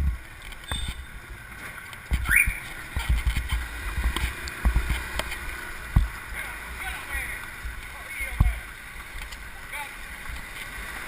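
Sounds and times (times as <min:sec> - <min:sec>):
low rumble with short thumps: 0:00.0 - 0:09.4.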